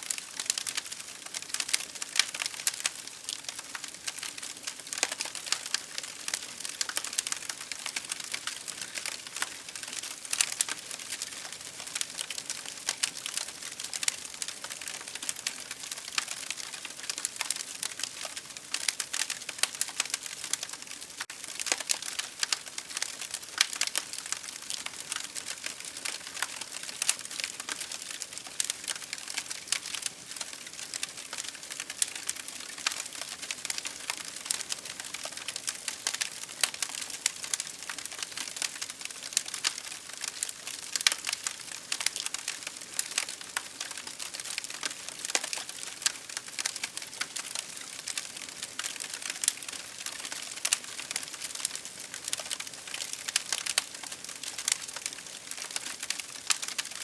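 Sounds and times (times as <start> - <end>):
campfire crackling: 0.1 - 57.0.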